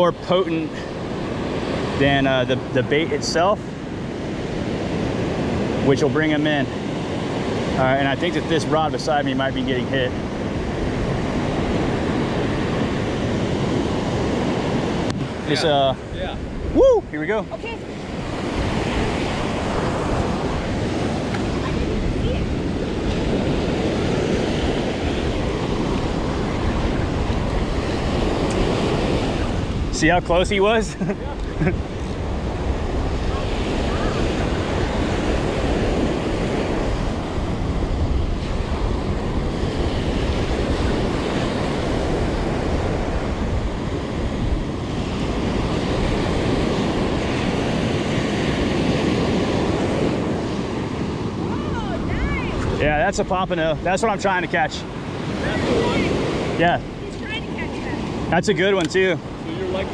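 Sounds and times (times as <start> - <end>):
surf breaking on beach: 0.0 - 59.9
wind rumbling on microphone: 0.0 - 59.9.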